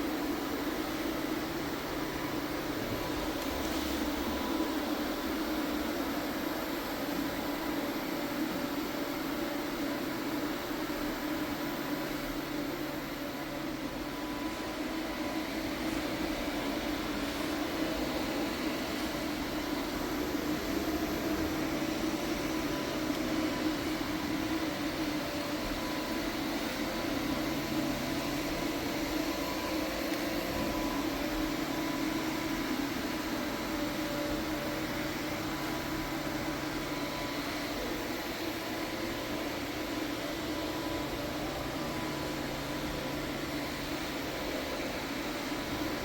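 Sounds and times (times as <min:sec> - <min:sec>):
machine fan-like hum: 0:00.0 - 0:46.0.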